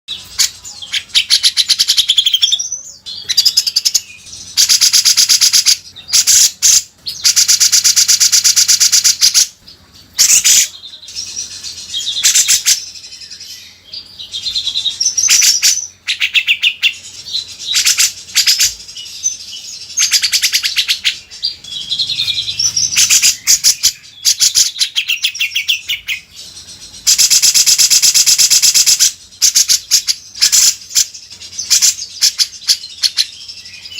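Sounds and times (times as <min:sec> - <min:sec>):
bulbul singing: 0:00.1 - 0:33.9.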